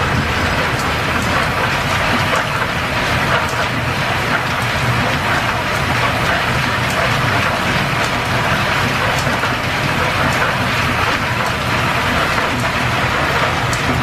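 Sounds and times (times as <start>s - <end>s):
workshop machinery humming: 0.0s - 14.0s.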